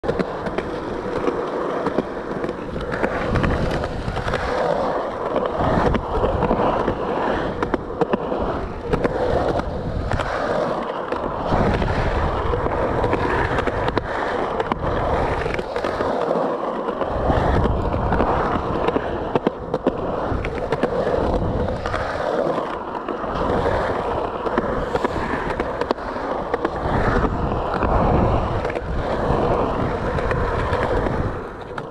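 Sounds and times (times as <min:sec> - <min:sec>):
skateboard clacks: 0:00.0 - 0:31.9
skateboard wheels rolling on concrete: 0:00.0 - 0:31.9.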